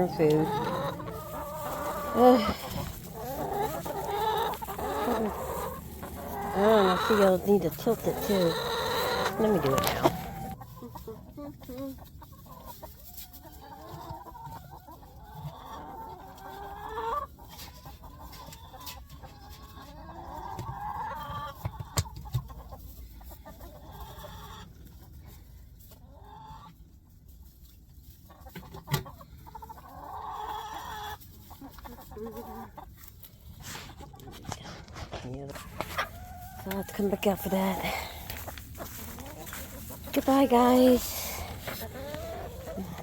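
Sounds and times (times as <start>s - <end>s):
hens clucking: 0.0s - 43.0s.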